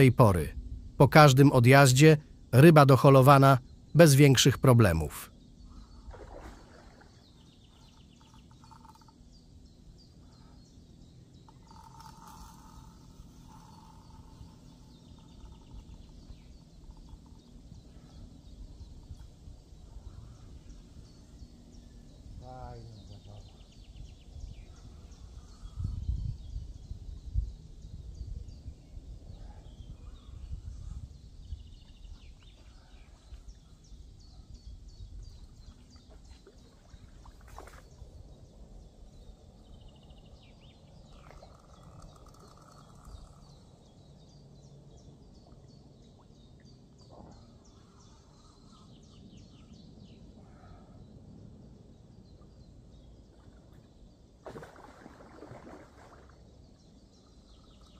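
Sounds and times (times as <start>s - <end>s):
woodland birds chirping: 0.0s - 57.9s.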